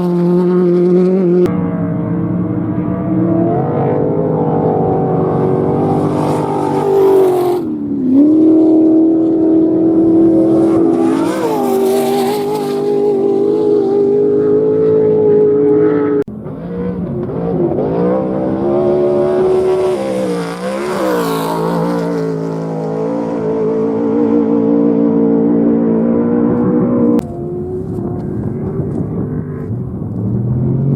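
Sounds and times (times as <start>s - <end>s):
race vehicle engines revving: 0.0s - 30.9s.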